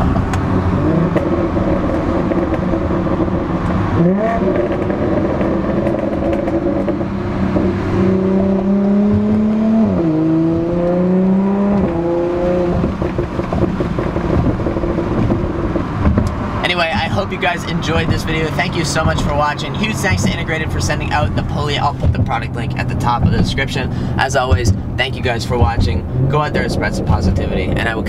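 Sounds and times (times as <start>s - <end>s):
car engine accelerating: 0.0s - 28.0s
gear upshifts: 0.0s - 28.0s.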